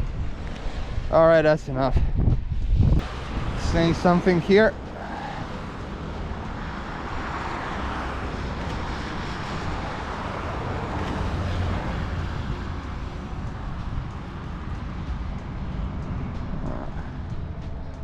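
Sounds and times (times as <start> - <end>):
road traffic passing: 2.5 - 18.0.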